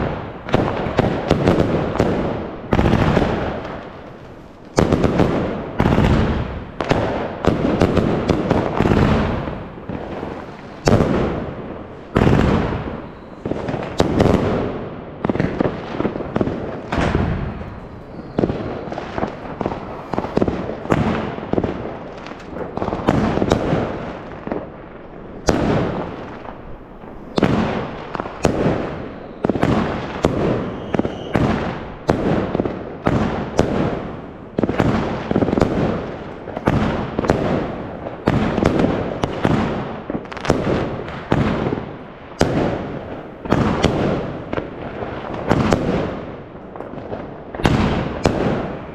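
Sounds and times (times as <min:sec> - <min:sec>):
fireworks and firecrackers banging: 0:00.0 - 0:48.9.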